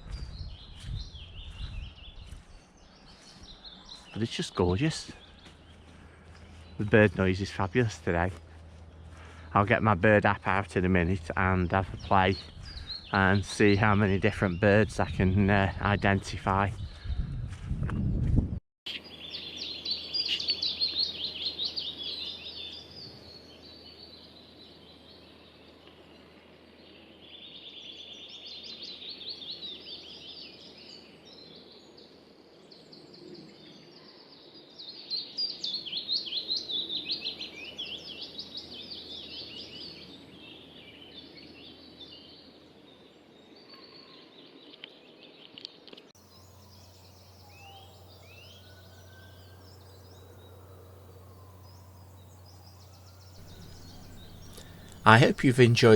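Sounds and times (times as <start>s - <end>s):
songbirds chirping and trilling: 0.0s - 18.2s, 18.9s - 55.9s.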